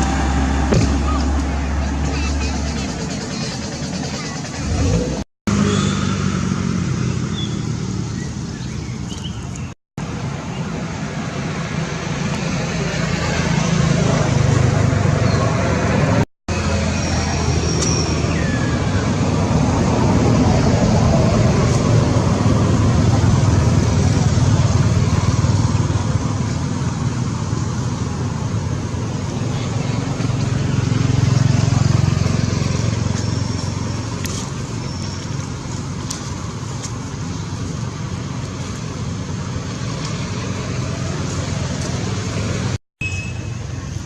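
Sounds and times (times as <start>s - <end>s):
low vehicle engine rumble: 0.0s - 44.0s.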